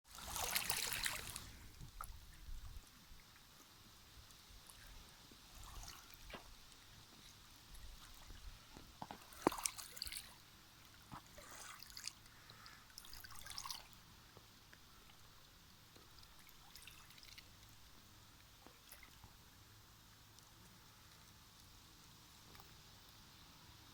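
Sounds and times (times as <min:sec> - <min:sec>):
small drips and splashes: 0:00.1 - 0:23.6
faint trickling water: 0:00.1 - 0:23.9.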